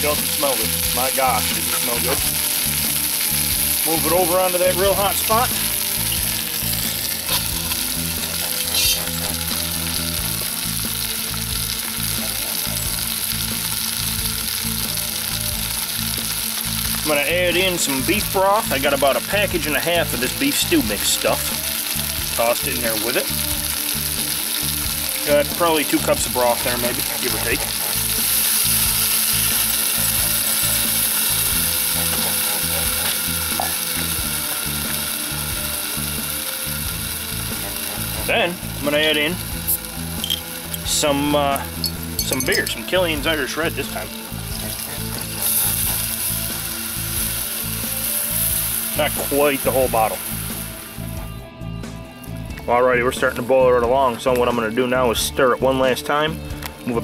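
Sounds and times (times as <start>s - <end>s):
meat sizzling in grease: 0.0s - 57.0s.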